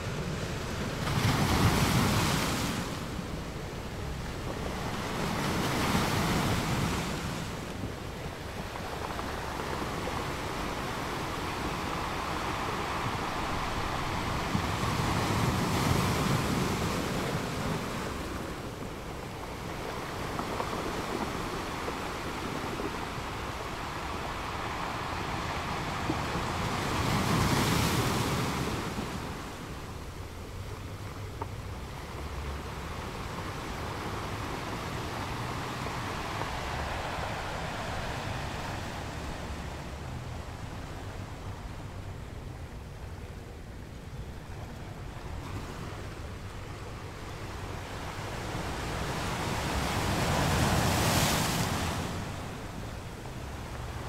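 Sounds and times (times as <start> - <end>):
ocean waves crashing: 0.0 - 54.0.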